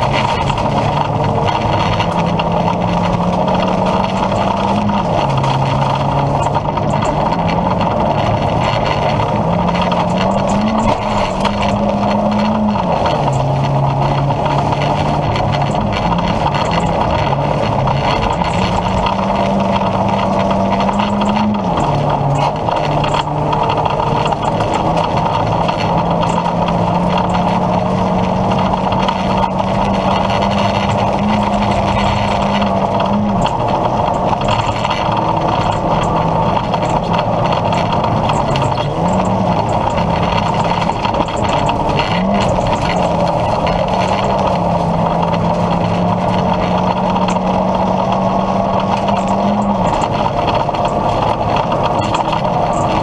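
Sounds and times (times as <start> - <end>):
car engine revving hard: 0.0 - 53.0
road and tyre noise: 0.0 - 53.0.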